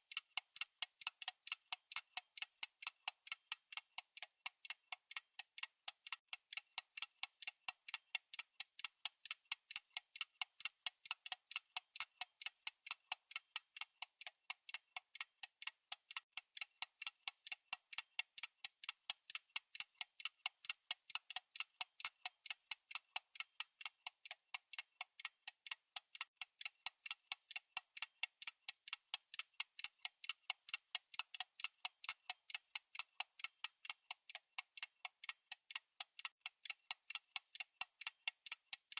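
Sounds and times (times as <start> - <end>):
clock ticking: 0.0 - 38.9.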